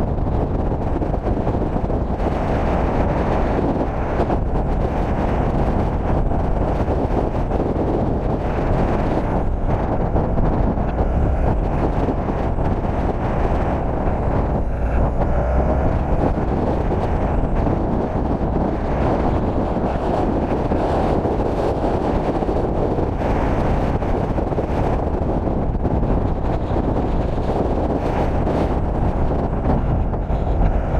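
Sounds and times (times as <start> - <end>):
skateboard wheels rolling on asphalt: 0.0 - 30.9
wind rushing over microphone: 0.0 - 30.9.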